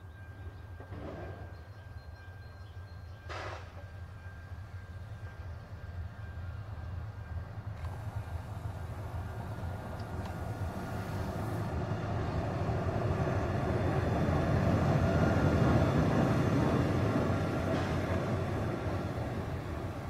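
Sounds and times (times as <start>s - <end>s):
electric locomotive passing: 0.0s - 20.0s.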